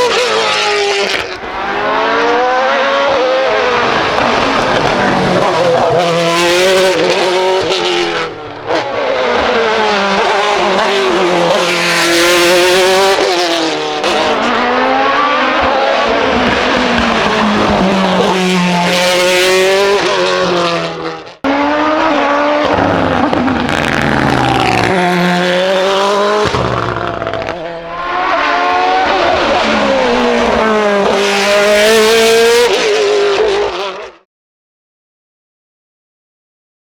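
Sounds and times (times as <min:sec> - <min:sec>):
race car engine revving: 0:00.0 - 0:34.2.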